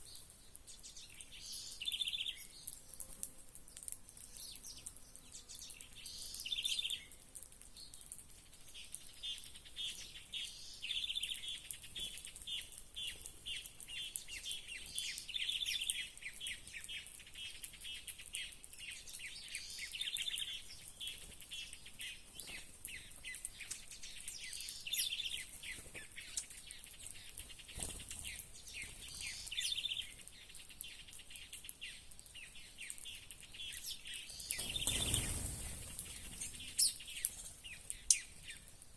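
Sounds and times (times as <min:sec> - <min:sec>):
songbirds chirping: 0:00.0 - 0:38.9
steady high hiss: 0:00.0 - 0:38.9.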